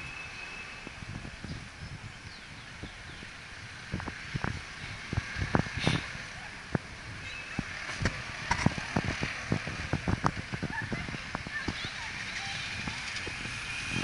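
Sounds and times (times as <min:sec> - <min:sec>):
distant traffic: 0:00.0 - 0:14.0.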